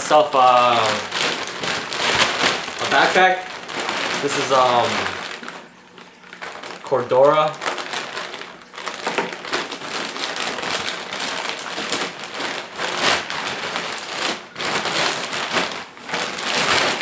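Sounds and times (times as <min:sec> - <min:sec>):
nylon backpack rustling and crinkling: 0:00.0 - 0:17.0.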